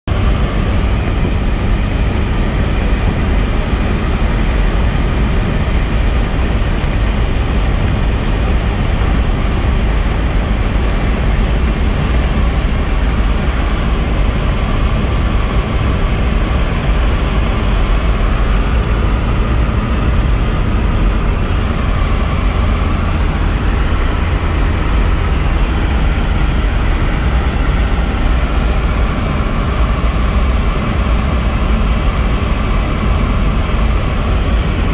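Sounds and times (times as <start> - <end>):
car cabin road and wind noise: 0.1 - 34.9
car engine running: 0.1 - 34.9.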